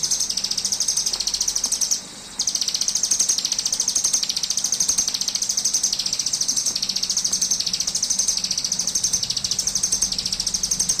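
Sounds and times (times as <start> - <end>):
bird buzzing trill: 0.0 - 11.0.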